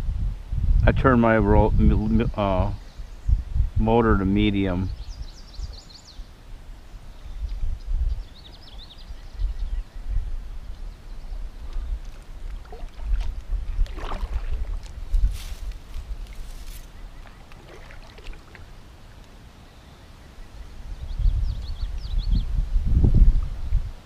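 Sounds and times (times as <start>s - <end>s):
wind gusting on microphone: 0.0s - 18.8s, 20.6s - 24.0s.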